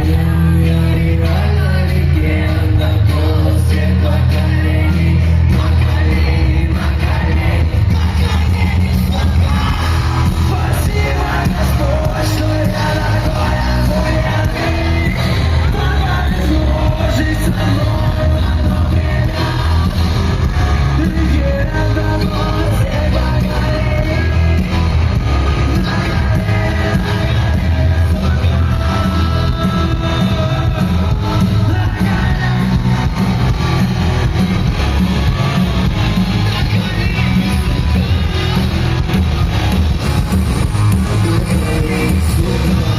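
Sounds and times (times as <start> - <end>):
heavy bass: 0.0 - 42.9
live rock band playing: 0.0 - 42.9
person singing: 0.0 - 42.9.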